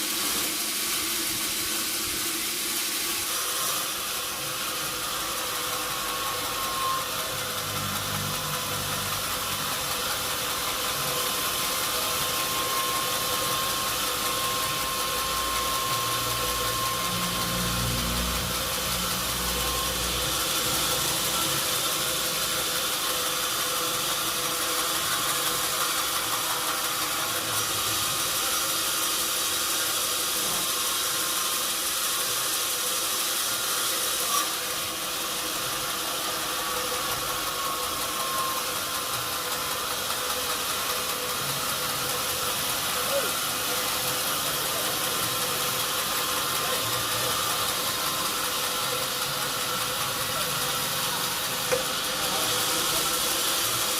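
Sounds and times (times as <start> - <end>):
sawmill machinery hissing: 0.0 - 53.9.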